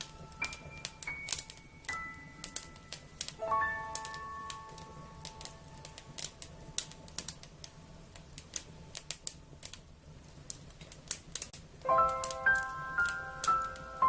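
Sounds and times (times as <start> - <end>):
soft music: 0.0 - 9.7, 11.6 - 14.0
low steady hum: 0.0 - 14.0
wood fire crackling: 0.0 - 14.0.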